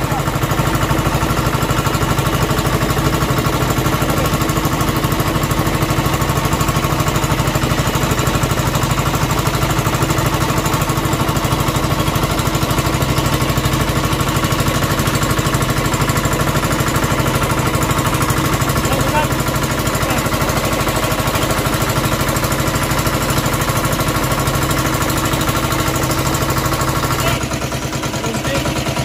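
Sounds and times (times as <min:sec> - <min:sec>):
boat engine chugging: 0:00.0 - 0:29.0.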